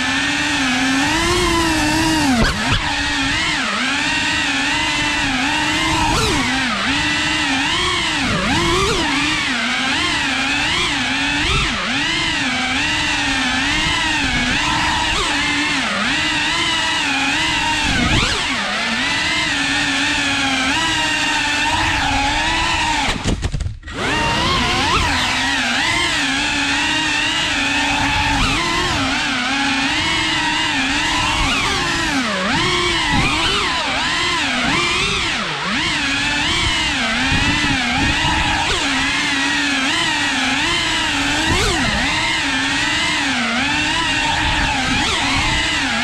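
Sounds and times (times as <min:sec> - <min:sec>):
drone motors whining: 0:00.0 - 0:46.0.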